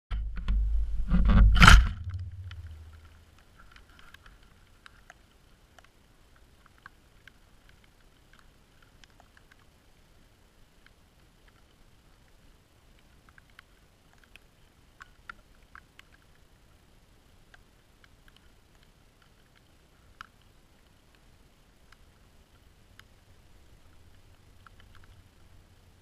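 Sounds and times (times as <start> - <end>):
faint low rumble: 0.1 - 26.0
soft ticks: 2.4 - 26.0.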